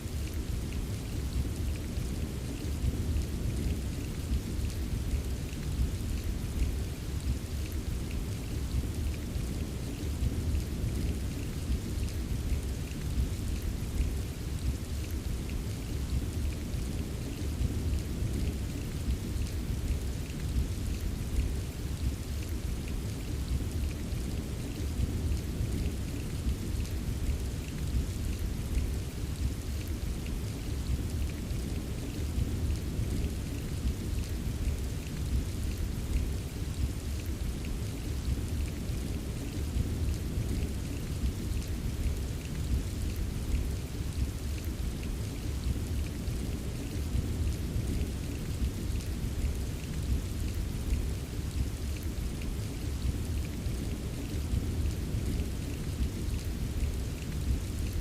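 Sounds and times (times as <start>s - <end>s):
patter of raindrops: 0.0s - 58.0s
steady rainfall: 0.0s - 58.0s.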